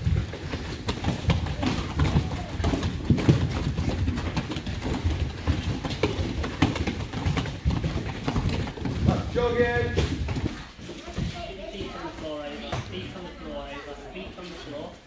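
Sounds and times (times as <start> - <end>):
children's bare feet running: 0.0 - 13.3.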